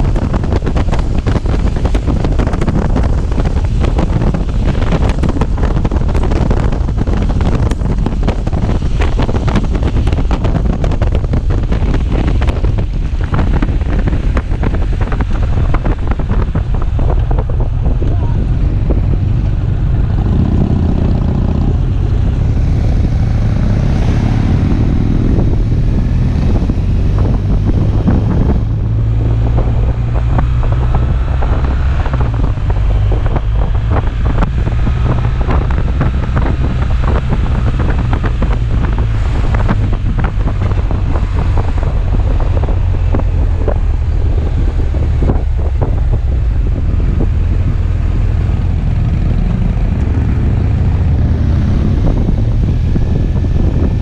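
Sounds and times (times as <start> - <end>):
engine rumbling: 0.0 - 54.0
wind noise on microphone: 0.0 - 54.0.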